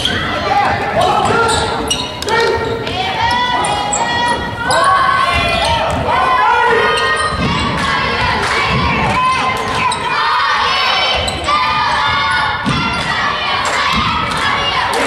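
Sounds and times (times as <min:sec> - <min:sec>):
spectators shouting and cheering: 0:00.0 - 0:15.0.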